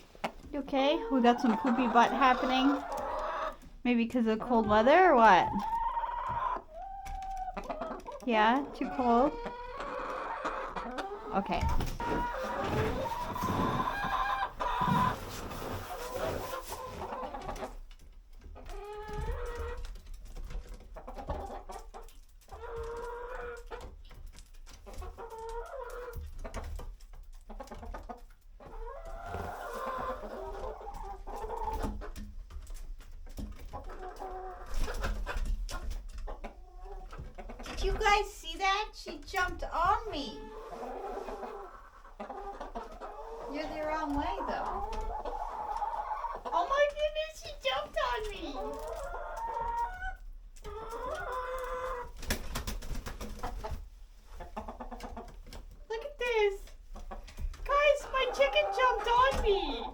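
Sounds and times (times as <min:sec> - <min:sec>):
hens clucking: 0:00.0 - 0:59.9
hens scuffling: 0:00.0 - 0:59.9.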